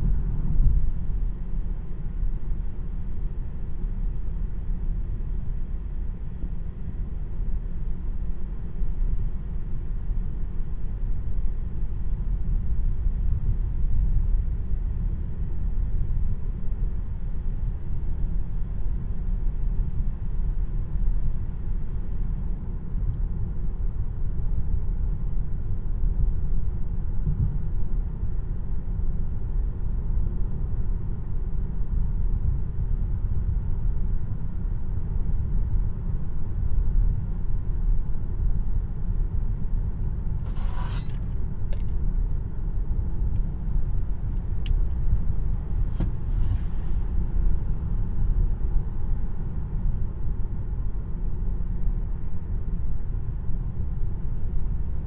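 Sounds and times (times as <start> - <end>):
road and tyre rumble in car: 0.0 - 55.0.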